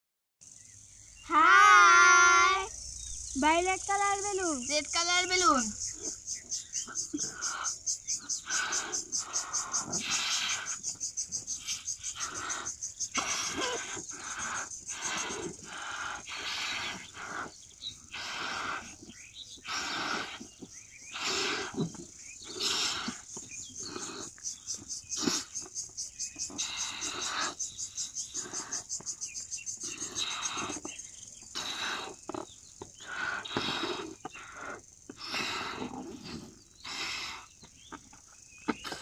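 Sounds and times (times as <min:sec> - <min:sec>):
breathy puffs into balloons: 0:06.8 - 0:39.0.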